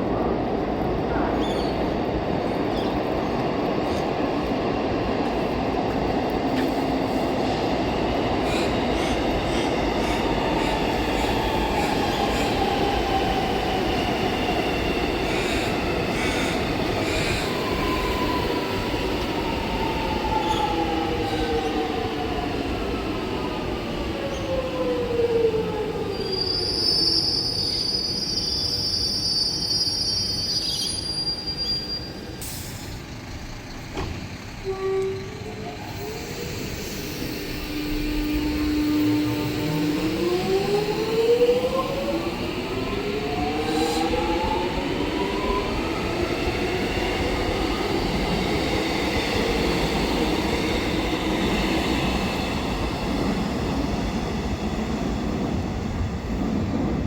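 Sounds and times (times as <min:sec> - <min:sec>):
electric train slowing: 0:00.0 - 0:57.0.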